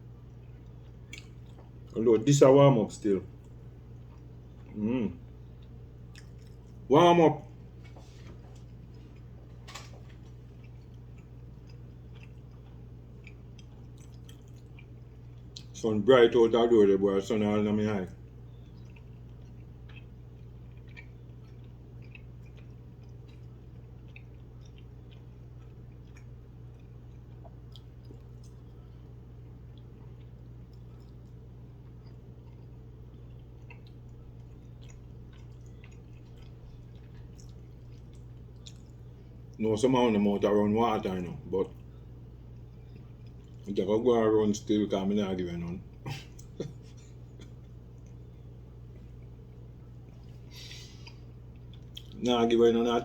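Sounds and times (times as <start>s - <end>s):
person chewing food: 0.0s - 2.3s, 3.3s - 6.9s, 7.6s - 15.8s, 18.0s - 39.6s, 41.0s - 43.8s, 45.6s - 52.2s
low hum: 0.0s - 53.0s.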